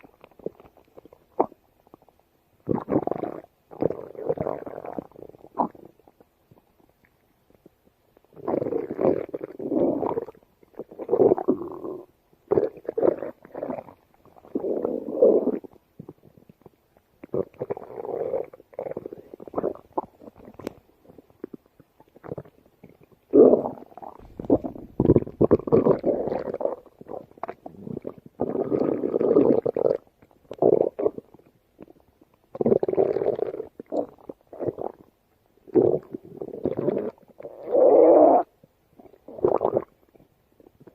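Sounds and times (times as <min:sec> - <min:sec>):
stomach growling: 0:00.0 - 0:40.9.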